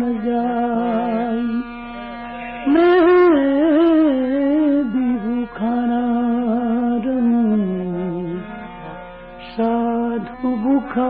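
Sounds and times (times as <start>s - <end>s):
man singing devotional song: 0.0s - 1.8s, 2.6s - 11.0s.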